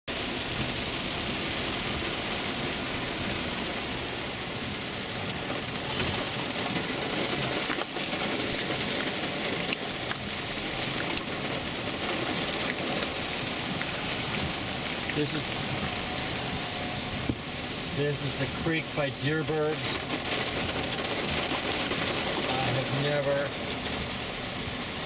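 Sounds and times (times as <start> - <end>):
heavy rain on car roof: 0.1 - 25.0
sharp raindrop hits: 4.7 - 25.0.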